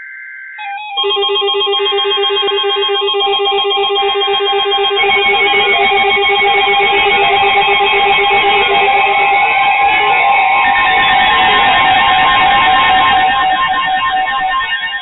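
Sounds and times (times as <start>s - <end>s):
weather alert radio beeping: 0.6s - 15.0s.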